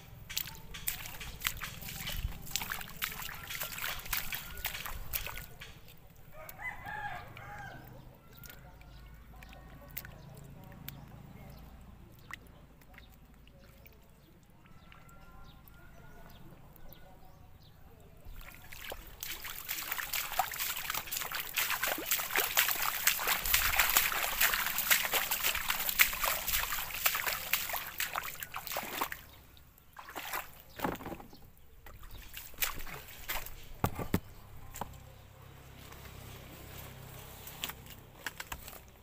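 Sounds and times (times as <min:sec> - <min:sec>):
water sloshing and splashing: 0:00.0 - 0:17.2, 0:18.1 - 0:35.2, 0:35.8 - 0:39.0.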